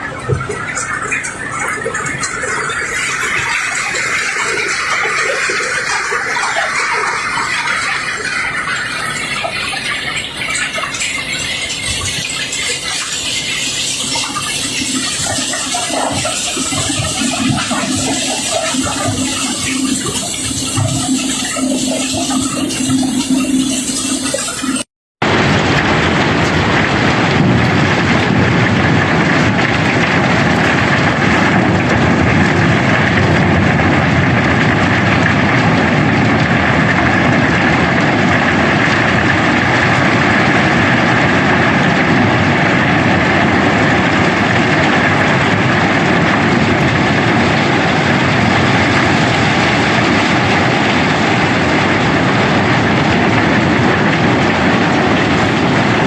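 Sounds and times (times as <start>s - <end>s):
heavy machinery running: 0.0s - 56.0s
rocks pouring and rattling: 0.0s - 56.0s.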